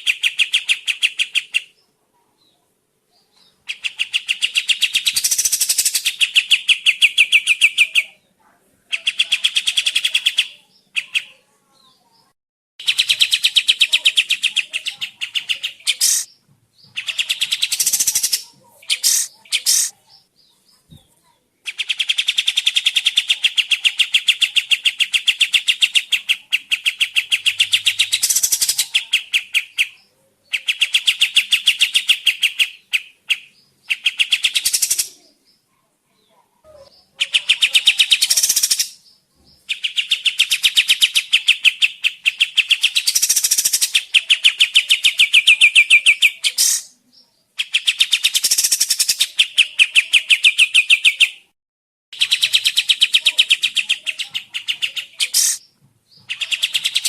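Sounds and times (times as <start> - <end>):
songbird chattering trill: 0.0 - 8.3, 8.9 - 20.9, 21.6 - 35.7, 36.7 - 51.5, 52.1 - 57.0.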